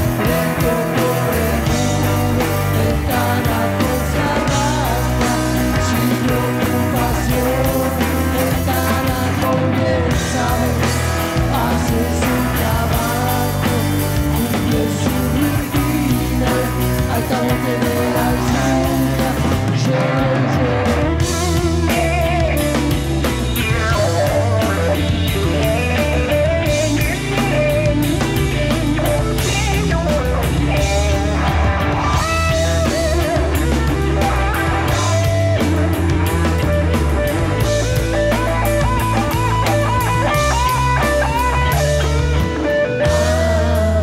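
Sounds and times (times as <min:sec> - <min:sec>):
electric guitars melody: 0:00.0 - 0:44.0
live rock band playing: 0:00.0 - 0:44.0.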